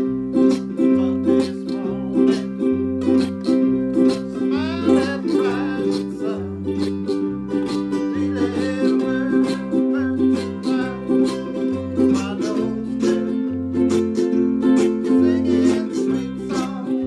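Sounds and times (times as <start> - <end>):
plucked bass line: 0.0 - 17.0
ukuleles strummed: 0.0 - 17.0.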